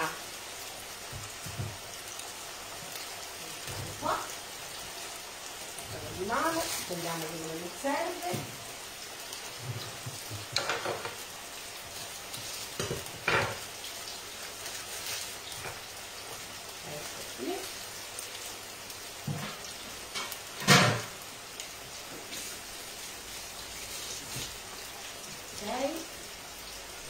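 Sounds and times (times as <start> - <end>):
potatoes sizzling in oil: 0.0 - 27.0.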